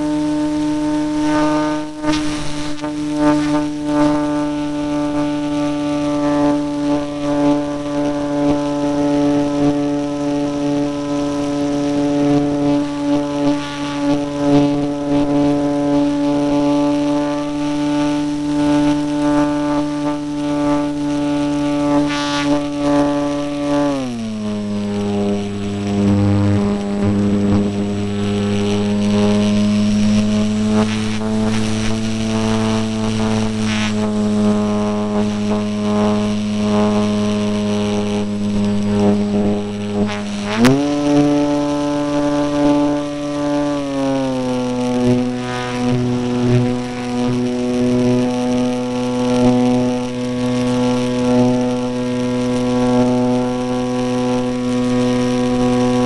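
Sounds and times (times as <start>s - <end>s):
model airplane motor and propeller drone: 0.0s - 56.0s.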